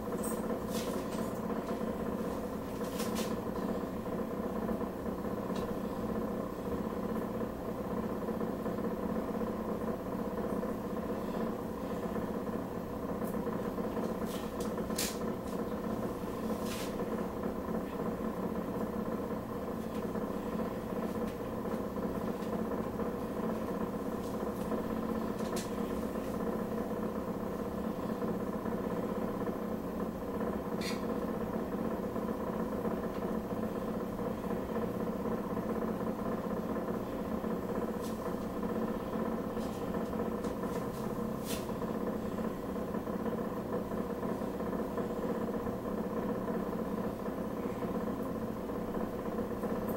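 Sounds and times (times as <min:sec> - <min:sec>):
range hood fan humming: 0:00.0 - 0:49.9.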